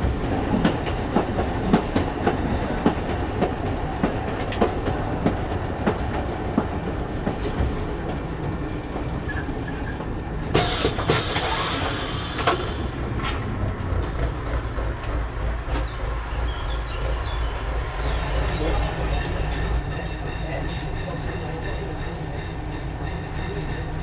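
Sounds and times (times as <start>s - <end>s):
railcar low rumble: 0.0s - 24.0s
wheels clicking over rail joints: 0.0s - 24.0s.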